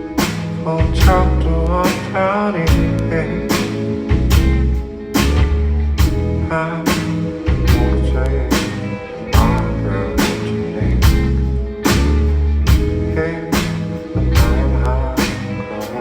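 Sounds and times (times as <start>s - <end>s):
drum kit beat: 0.0s - 16.0s
electric bass: 0.0s - 16.0s
guitar: 0.0s - 16.0s.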